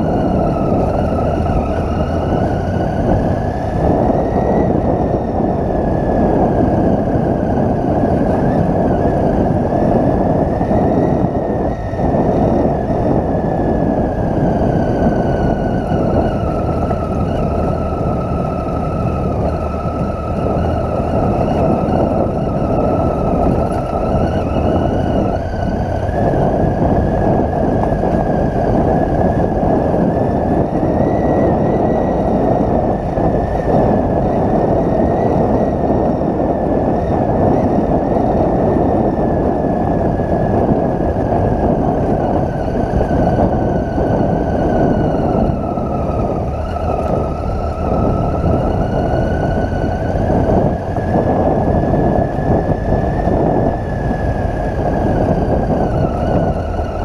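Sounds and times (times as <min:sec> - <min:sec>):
motorcycle engine running: 0:00.0 - 0:57.0
thin whine: 0:00.0 - 0:57.0.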